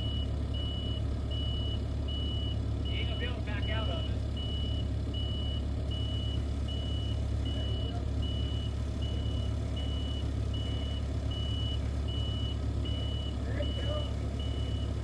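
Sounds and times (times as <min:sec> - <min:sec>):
heavy engine running: 0:00.0 - 0:15.0
vehicle backup alarm beeping: 0:00.0 - 0:15.0.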